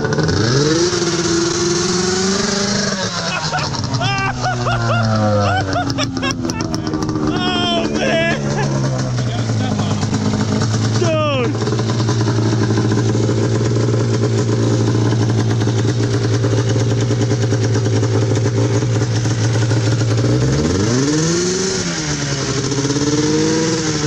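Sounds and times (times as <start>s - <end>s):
loud utility vehicle engine revving: 0.0s - 24.0s.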